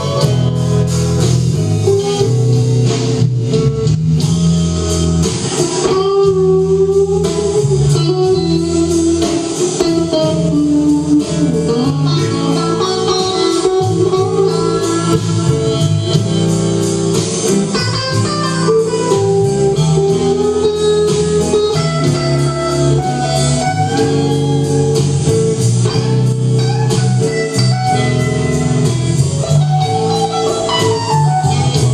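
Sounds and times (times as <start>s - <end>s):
blues band playing: 0.0s - 31.9s
electric guitar bending notes: 0.0s - 31.9s.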